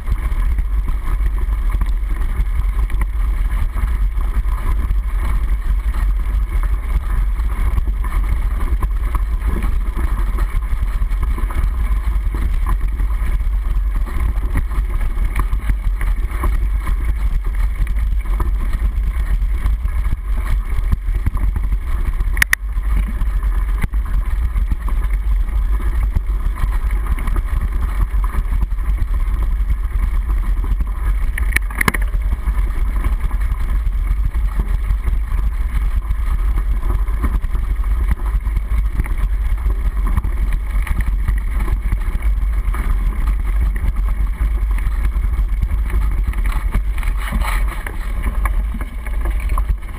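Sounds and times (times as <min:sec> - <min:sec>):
muffled trail rumble: 0:00.0 - 0:49.9.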